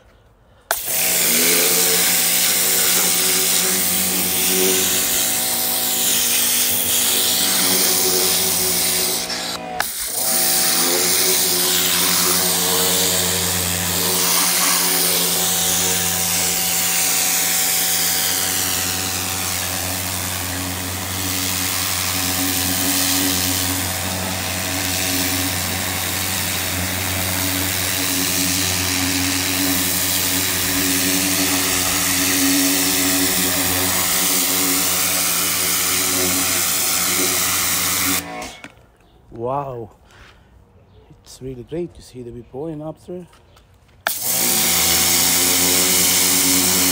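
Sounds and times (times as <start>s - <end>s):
pressure washer motor humming: 0.7s - 38.7s, 44.1s - 46.9s.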